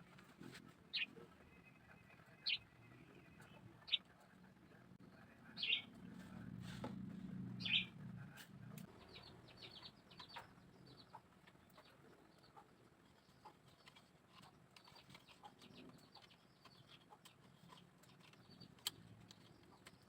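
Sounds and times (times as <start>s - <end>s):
bird chirping: 0.8s - 6.4s, 7.6s - 20.0s.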